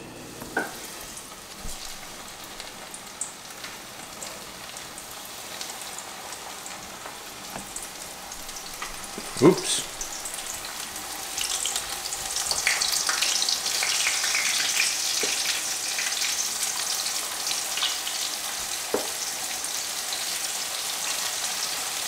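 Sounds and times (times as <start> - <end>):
meat sizzling in oil: 0.6 - 22.0.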